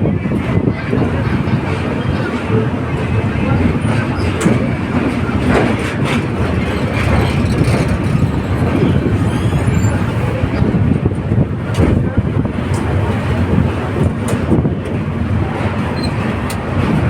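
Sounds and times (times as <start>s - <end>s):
train rumbling: 0.0s - 17.0s
wheels clicking over rails: 0.5s - 17.0s.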